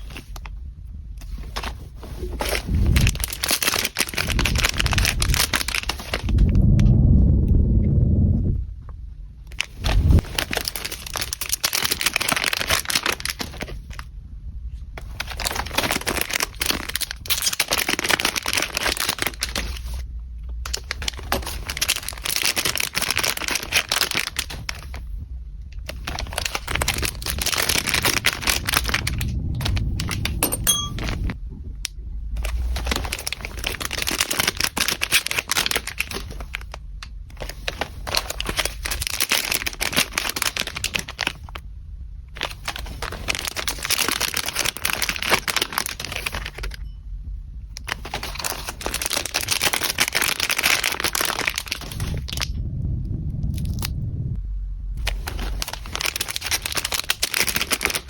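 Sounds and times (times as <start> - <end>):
packaging crinkling and rustling: 0.0 - 0.6, 1.2 - 6.5, 9.5 - 14.1, 15.0 - 25.2, 25.8 - 31.4, 32.4 - 41.6, 42.3 - 46.9, 47.7 - 52.6, 55.0 - 58.0.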